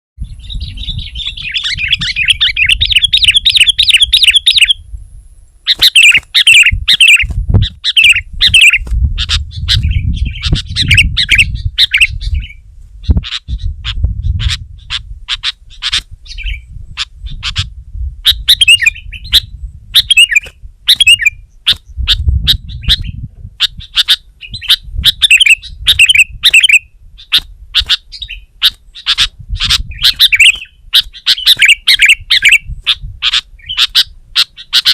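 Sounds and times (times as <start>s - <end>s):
bird calling and chattering: 0.2s - 4.8s, 5.6s - 34.9s.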